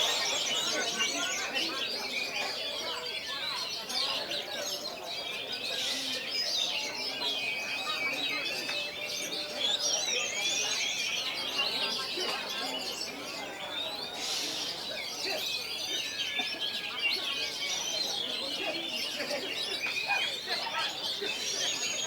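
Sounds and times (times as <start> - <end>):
chorus of birds singing: 0.0 - 22.0
faint murmur of voices: 0.0 - 22.0.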